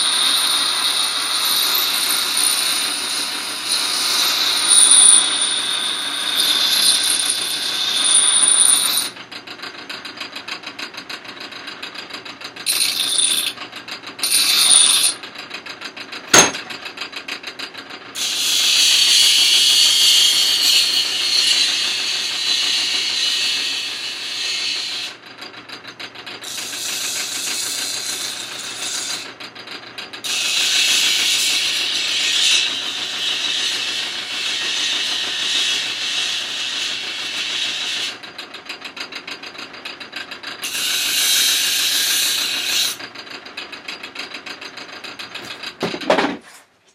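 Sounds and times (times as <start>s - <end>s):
sharpening machine ticking and humming: 0.0s - 10.2s, 11.6s - 15.4s, 18.2s - 25.3s, 26.3s - 39.1s, 40.1s - 45.7s.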